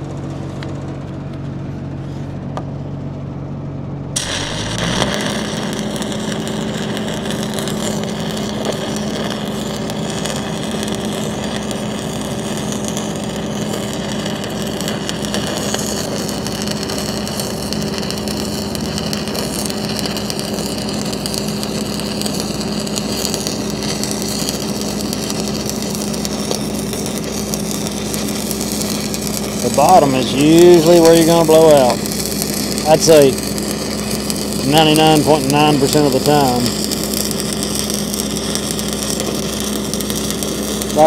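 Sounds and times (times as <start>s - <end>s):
steady low hum: 0.0s - 41.0s
welding arc crackling and hissing: 4.2s - 41.0s.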